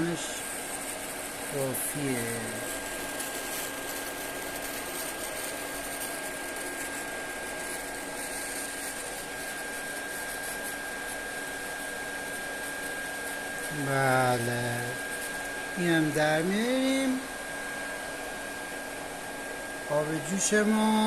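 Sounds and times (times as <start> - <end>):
cooling fan blowing: 0.0 - 21.0
thin high whine: 0.0 - 21.0.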